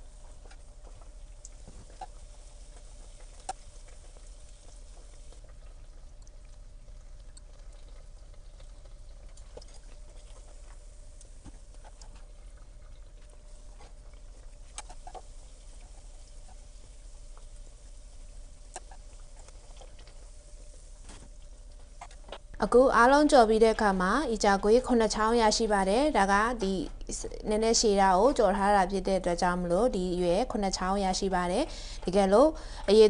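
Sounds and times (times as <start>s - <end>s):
oil sizzling and crackling: 0.0s - 28.5s, 29.9s - 33.0s.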